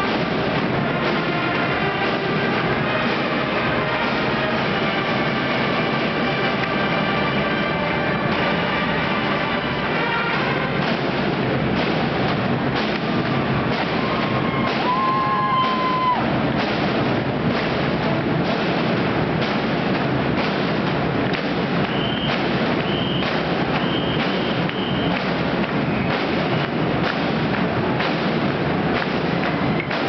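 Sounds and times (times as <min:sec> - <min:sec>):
heavy drum hits: 0:00.0 - 0:30.0
marching brass band playing: 0:00.0 - 0:30.0.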